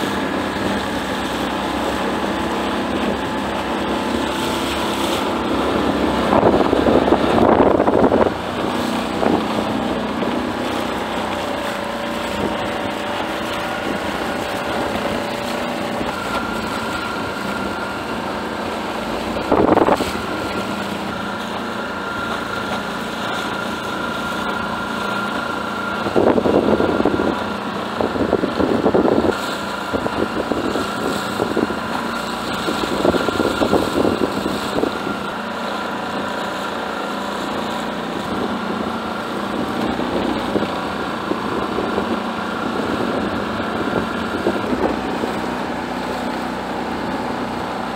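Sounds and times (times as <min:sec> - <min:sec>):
wind gusting on microphone: 0:00.0 - 0:22.2, 0:24.6 - 0:47.9
boat through choppy water: 0:00.0 - 0:47.9
outboard motor running: 0:00.0 - 0:47.9.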